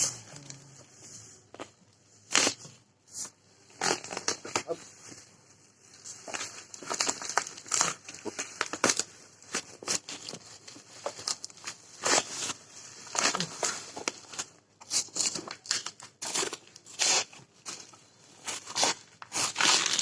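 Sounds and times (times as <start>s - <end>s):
packaging crinkling and rustling: 3.8s - 20.0s.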